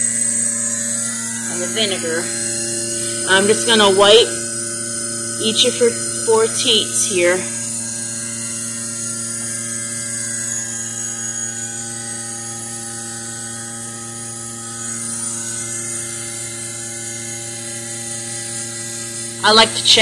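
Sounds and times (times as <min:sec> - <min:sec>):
vacuum pump humming: 0:00.0 - 0:20.0.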